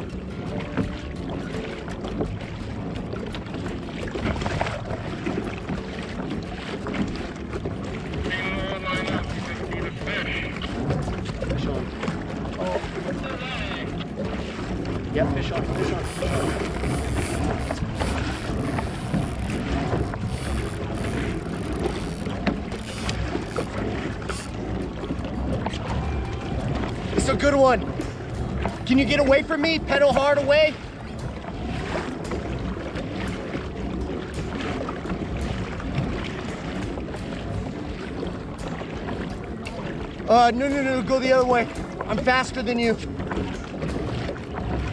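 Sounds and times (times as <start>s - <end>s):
water slapping against kayak hull: 0.0s - 44.9s.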